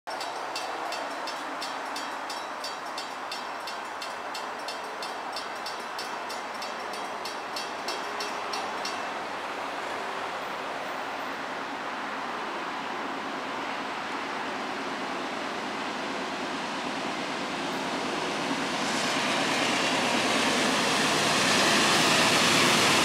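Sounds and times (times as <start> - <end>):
distant freight train: 0.1 - 23.0.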